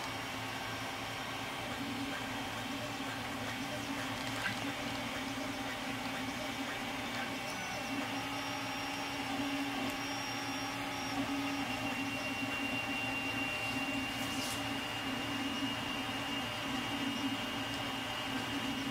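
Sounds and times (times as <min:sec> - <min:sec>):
stepper motors humming: 0:00.0 - 0:18.9.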